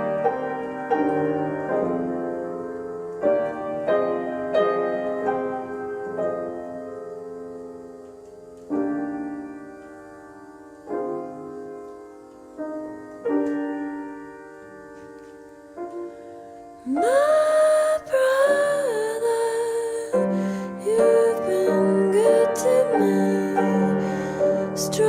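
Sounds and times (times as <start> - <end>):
slow solo piano chords: 0.0 - 25.0.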